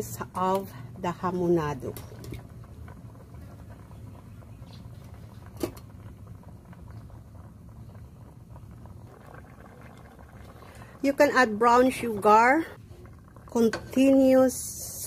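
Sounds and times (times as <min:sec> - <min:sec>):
sauce simmering in a pot: 0:00.0 - 0:15.0.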